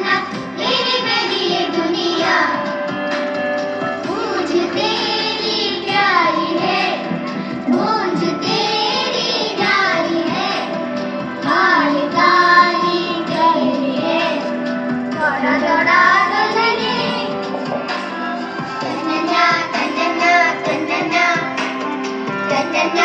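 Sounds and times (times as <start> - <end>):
children singing in unison: 0.0 - 2.9, 4.0 - 18.0, 18.8 - 23.0
instrumental accompaniment: 0.0 - 23.0.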